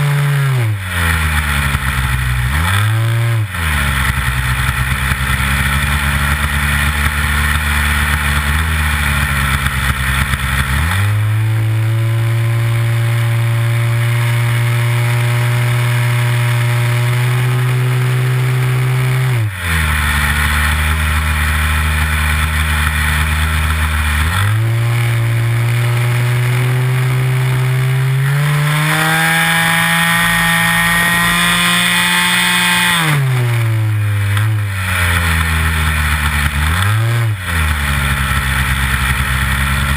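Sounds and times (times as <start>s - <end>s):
model airplane engine: 0.0s - 39.9s.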